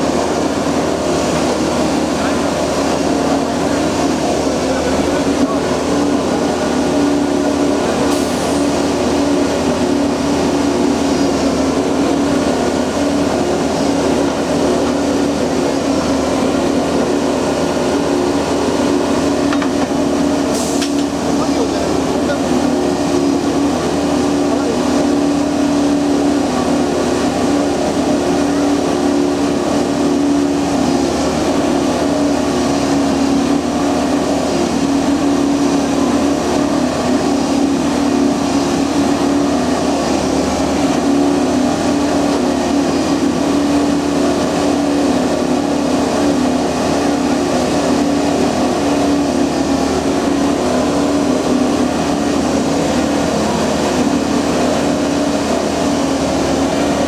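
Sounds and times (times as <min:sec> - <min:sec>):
track machine engine humming: 0:00.0 - 0:57.0.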